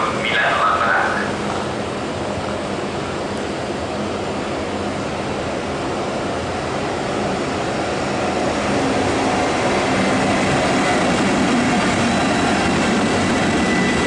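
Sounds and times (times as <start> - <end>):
approaching train rushing drone: 0.0 - 14.0.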